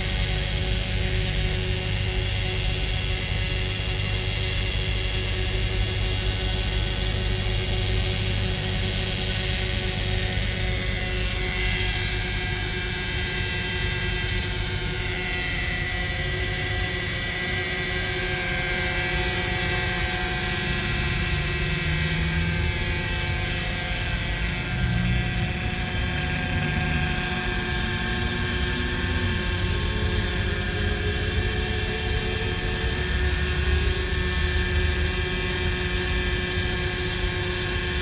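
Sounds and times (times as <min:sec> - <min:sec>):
helicopter rotor whine: 0:00.0 - 0:38.0.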